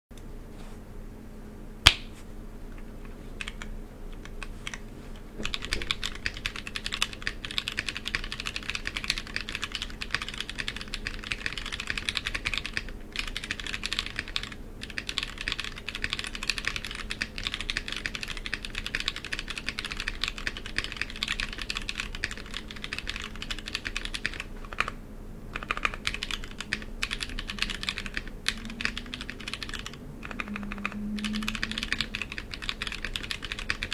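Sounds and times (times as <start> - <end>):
typing on mechanical keyboard: 3.4 - 4.8, 5.4 - 33.9.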